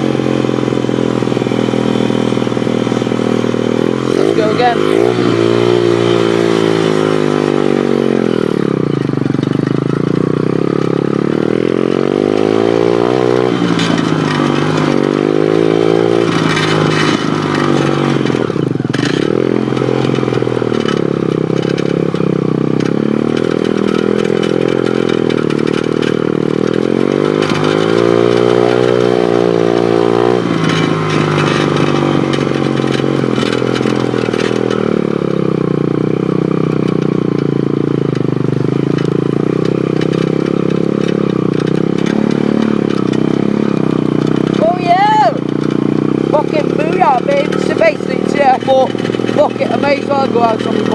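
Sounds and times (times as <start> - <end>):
bike rattling and knocking: 0.0 - 50.9
motorbike engine revving: 0.0 - 50.9.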